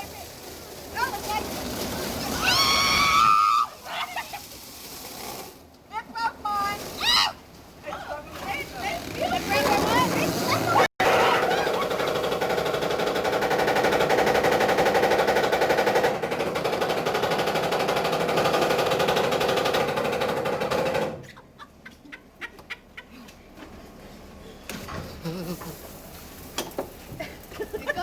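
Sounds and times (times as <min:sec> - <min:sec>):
car wash brushes slapping: 0:00.0 - 0:22.8.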